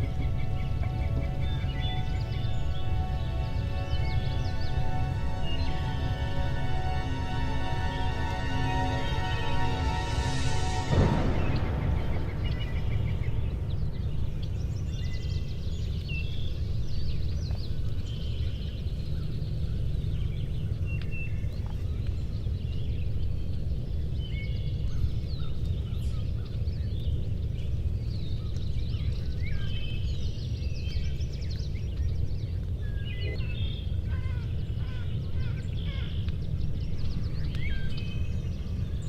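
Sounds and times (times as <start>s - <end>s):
songbirds chirping and whistling: 0.0s - 39.0s
steady low rumble: 0.0s - 39.0s.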